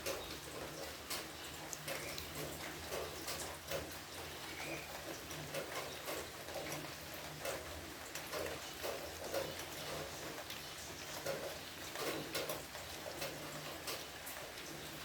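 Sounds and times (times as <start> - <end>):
cat lapping water: 0.0 - 15.0.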